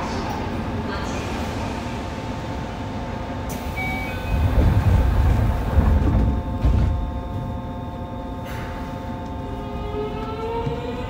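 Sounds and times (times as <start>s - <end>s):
train equipment hum: 0.0s - 11.0s.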